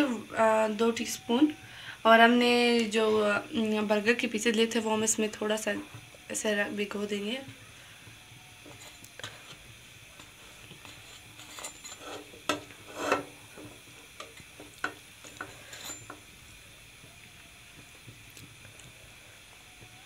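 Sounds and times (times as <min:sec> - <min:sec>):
faint sizzling in a pan: 0:00.0 - 0:20.0.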